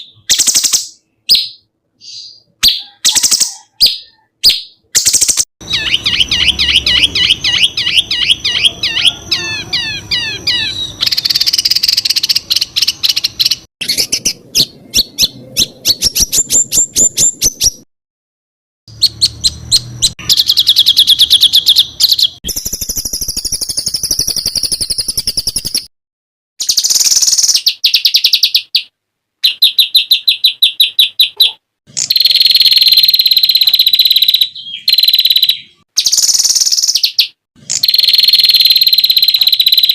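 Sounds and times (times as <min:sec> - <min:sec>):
songbird singing trills: 0:00.0 - 0:17.8, 0:18.9 - 0:25.9, 0:26.6 - 0:39.9.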